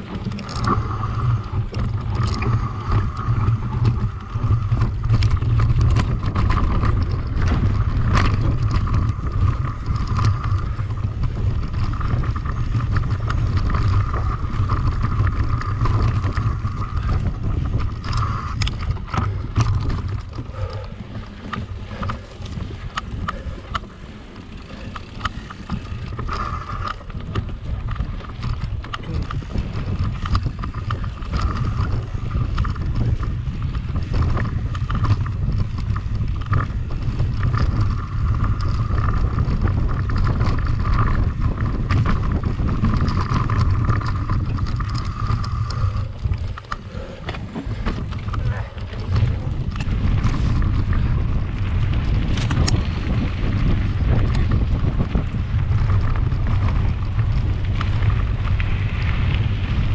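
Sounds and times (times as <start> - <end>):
bike rattling and clicking: 0.0 - 59.9
wind buffeting microphone: 0.0 - 59.9.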